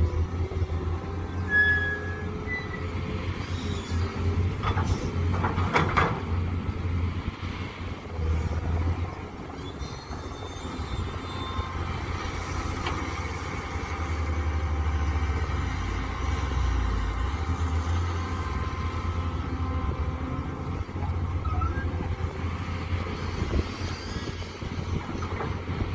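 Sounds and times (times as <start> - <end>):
excavator engine rumbling: 0.0 - 25.9.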